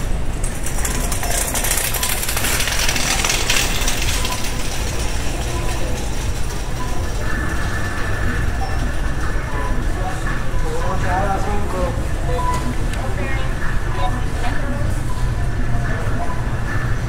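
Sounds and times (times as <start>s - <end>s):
shopping cart rattling: 0.0s - 14.5s.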